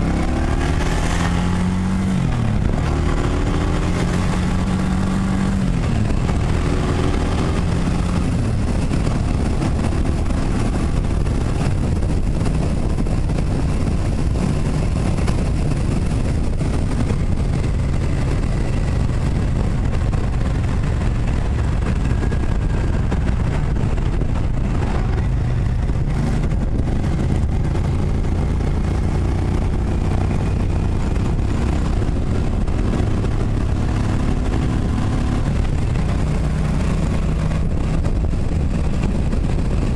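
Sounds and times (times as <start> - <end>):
motorcycle engine cruising: 0.0 - 39.9
road noise: 0.0 - 39.9
wind noise on microphone: 0.0 - 39.9.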